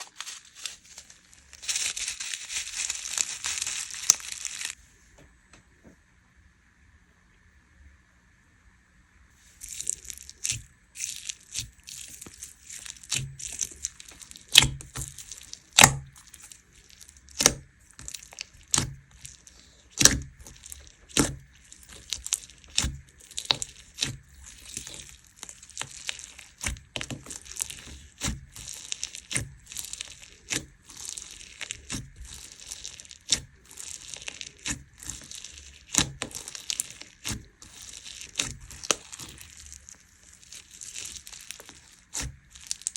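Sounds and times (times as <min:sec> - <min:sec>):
crunchy slime crackling: 0:00.0 - 0:04.8, 0:09.4 - 0:42.9.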